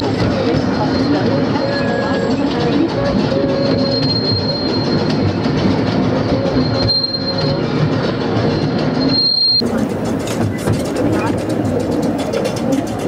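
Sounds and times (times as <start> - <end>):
high wheel squeal: 0.0 - 12.2
wheels rumbling and clattering on rail: 0.0 - 13.0.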